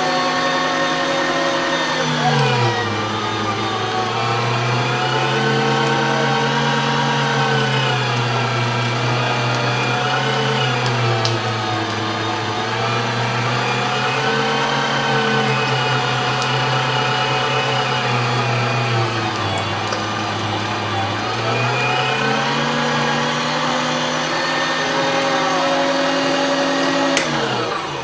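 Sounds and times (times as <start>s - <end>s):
electric meat grinder motor hum: 0.0s - 28.0s.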